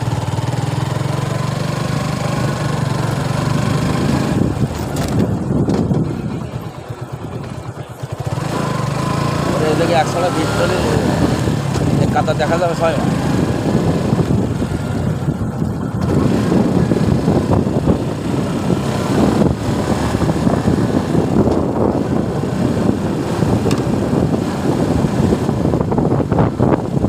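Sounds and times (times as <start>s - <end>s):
motorcycle engine and road rumble: 0.0s - 27.0s
wind rushing over microphone: 0.0s - 27.0s.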